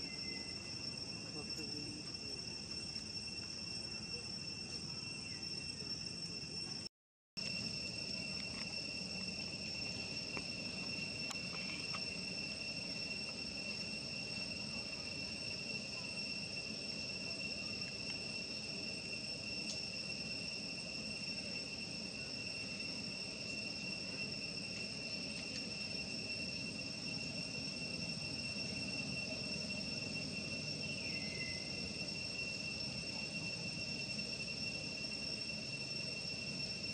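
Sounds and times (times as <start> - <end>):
high-pitched insect trill: 0.0 - 36.9.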